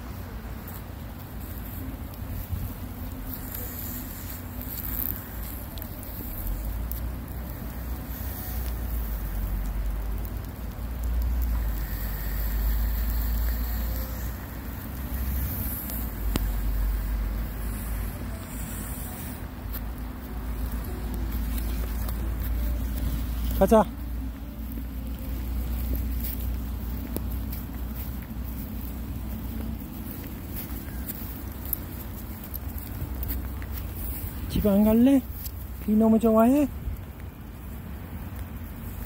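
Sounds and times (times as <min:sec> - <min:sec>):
light rain hissing: 0:00.0 - 0:39.0
wind rumble on microphone: 0:00.0 - 0:39.0.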